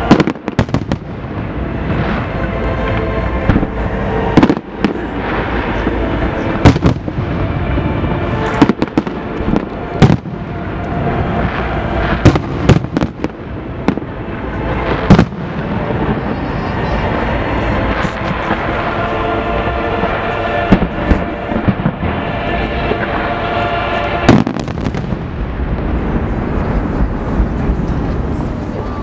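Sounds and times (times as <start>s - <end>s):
crackling rumble: 0.0s - 29.0s.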